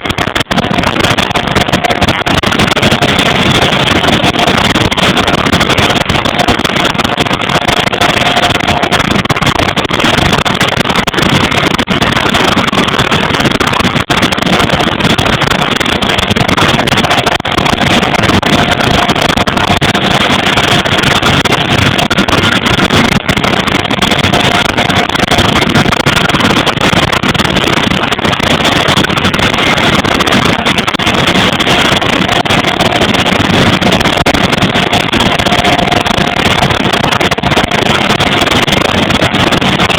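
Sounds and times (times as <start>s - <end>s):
faint steady whine: 0.0s - 39.9s
turboprop engines running: 0.0s - 39.9s.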